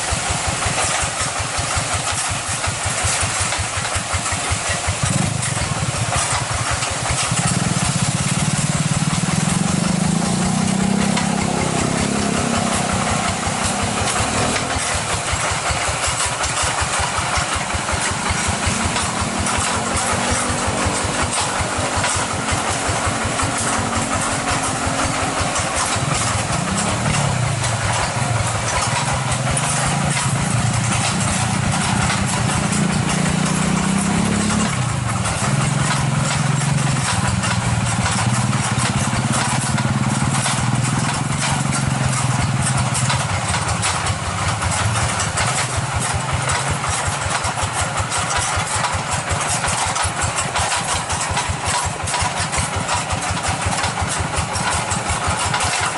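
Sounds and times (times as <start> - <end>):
diesel engine chugging: 0.0 - 55.9.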